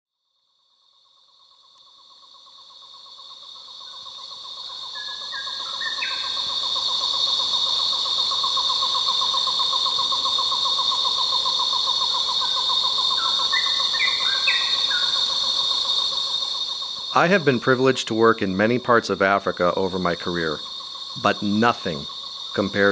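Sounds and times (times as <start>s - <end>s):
high insect drone: 0.1s - 22.9s
rapid pulsing insect trill: 0.1s - 22.9s.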